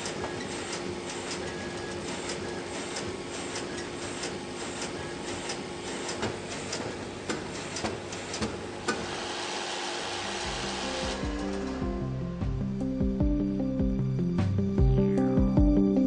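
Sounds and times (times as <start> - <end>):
machine mechanical hum: 0.0 - 13.2.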